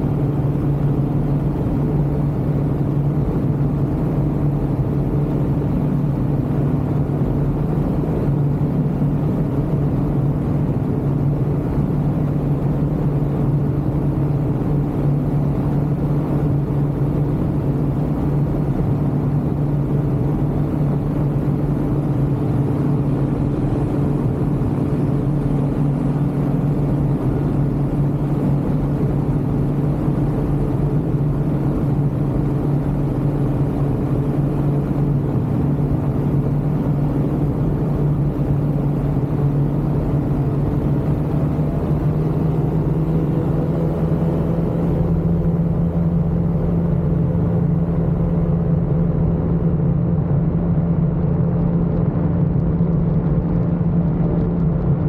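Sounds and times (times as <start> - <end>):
ultralight aircraft engine drone: 0.0 - 55.0.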